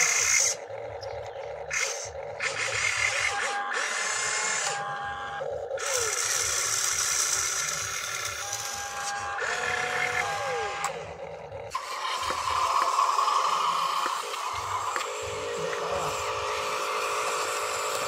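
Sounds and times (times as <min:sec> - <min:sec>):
rc excavator motors whining: 0:00.0 - 0:18.0
rc truck motor whine: 0:00.0 - 0:18.0.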